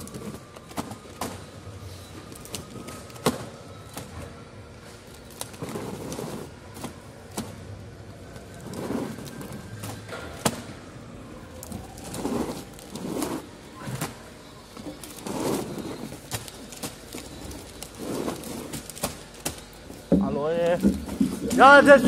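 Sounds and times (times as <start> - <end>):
knocks and clatter of goods: 0.0 - 11.0, 11.6 - 22.0.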